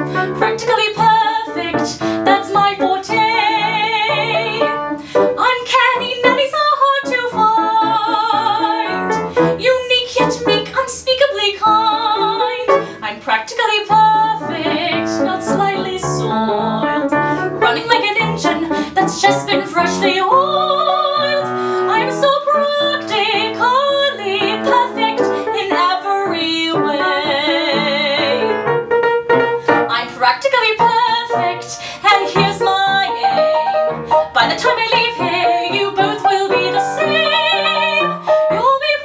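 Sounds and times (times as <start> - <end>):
woman singing: 0.0 - 28.6, 29.7 - 39.0
piano accompaniment: 0.0 - 39.0.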